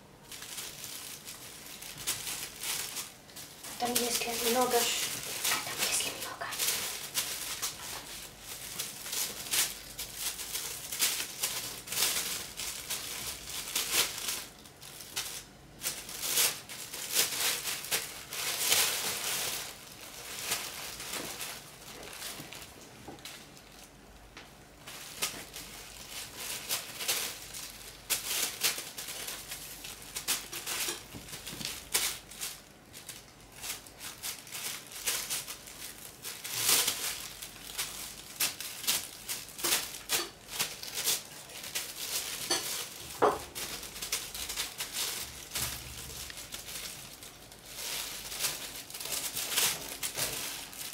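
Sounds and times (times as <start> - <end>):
plastic bag crinkling: 0.0 - 50.9.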